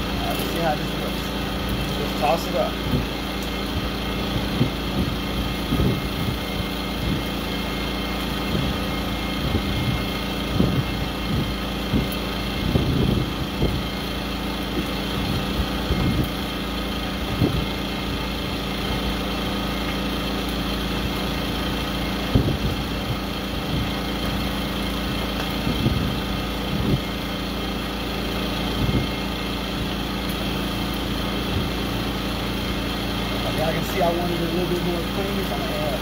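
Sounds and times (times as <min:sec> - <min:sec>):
steady engine hum: 0:00.0 - 0:36.0.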